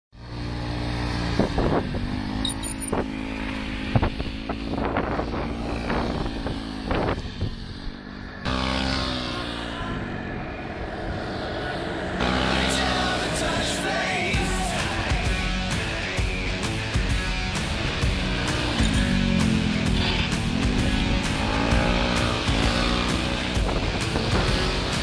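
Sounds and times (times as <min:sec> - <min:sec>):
engine with rising pitch: 0:00.2 - 0:25.0
motorcycle engine low speed: 0:00.2 - 0:25.0.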